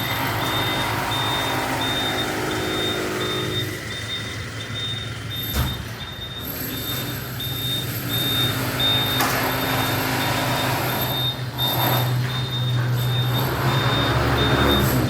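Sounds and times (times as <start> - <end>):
vehicle reversing beeper: 0.0 - 15.0.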